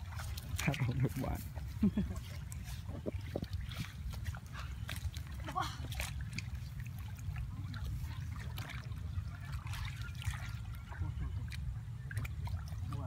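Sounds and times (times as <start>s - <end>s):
muddy water trickling and splashing: 0.0s - 13.0s.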